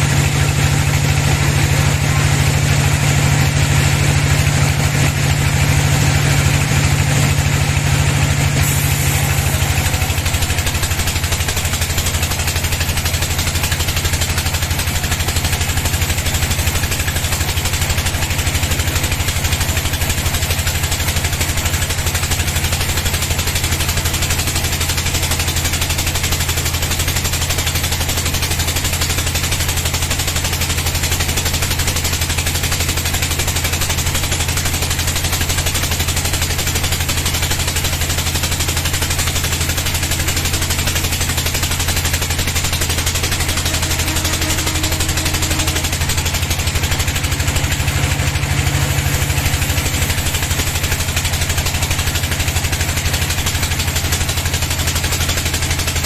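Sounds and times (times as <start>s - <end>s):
sawmill bandsaw engine running: 0.0s - 56.0s.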